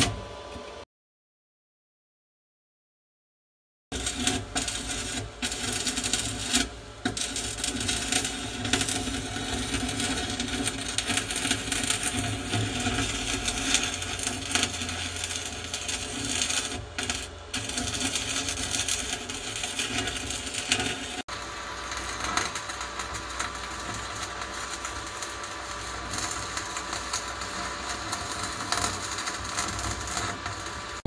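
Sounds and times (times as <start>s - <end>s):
welding arc crackling and sizzling: 3.9s - 31.0s.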